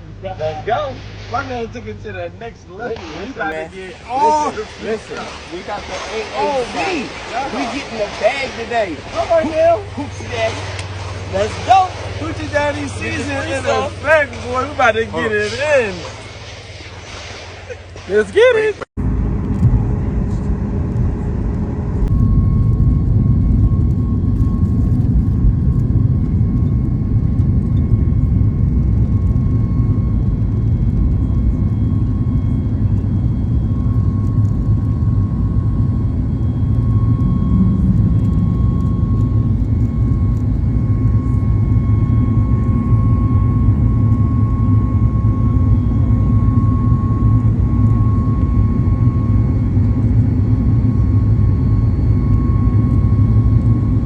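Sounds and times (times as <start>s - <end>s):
vehicle road and engine rumble: 0.0s - 45.5s
faint steady whine: 0.0s - 54.0s.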